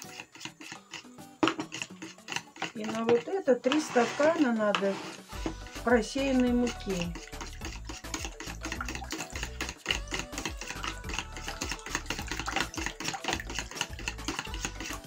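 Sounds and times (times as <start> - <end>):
utensil clicking against plastic bowl: 0.0 - 3.8, 5.5 - 15.0
batter splashing: 0.0 - 15.0.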